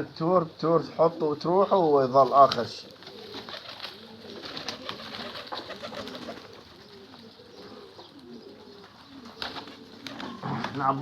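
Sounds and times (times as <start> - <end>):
pigeons cooing: 0.8 - 11.0.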